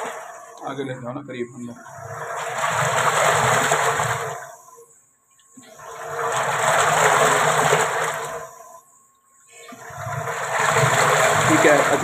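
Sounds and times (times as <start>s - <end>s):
liquid churning in a mixing tank: 0.0s - 12.0s.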